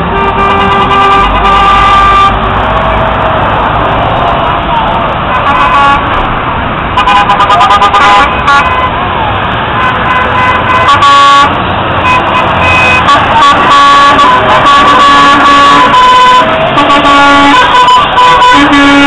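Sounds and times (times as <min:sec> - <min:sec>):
engine and road noise: 0:00.0 - 0:19.0
truck horns honking: 0:00.0 - 0:19.0.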